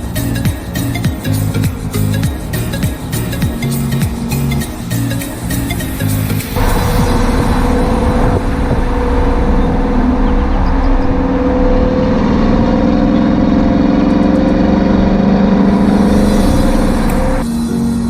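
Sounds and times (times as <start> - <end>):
car engine exhaust drone: 0.0 - 18.0.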